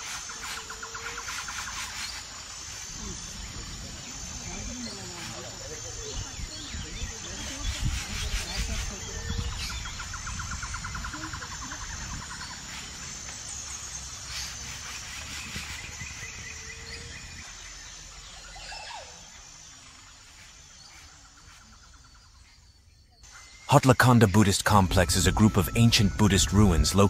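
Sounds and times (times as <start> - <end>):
high insect buzz: 0.0 - 26.9.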